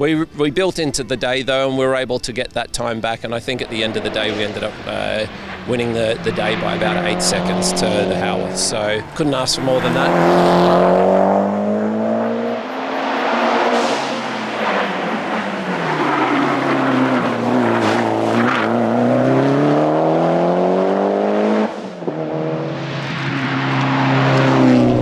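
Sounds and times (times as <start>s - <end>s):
car engine revving hard: 3.4s - 25.0s.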